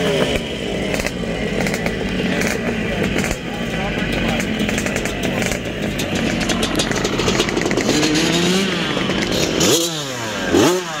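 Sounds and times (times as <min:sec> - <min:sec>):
motocross bike engines running: 0:00.0 - 0:11.0.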